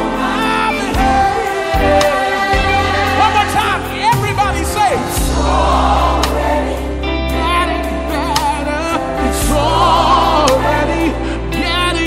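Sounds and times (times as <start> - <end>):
gospel choir singing: 0.0 - 12.0
steady bass: 0.0 - 12.0.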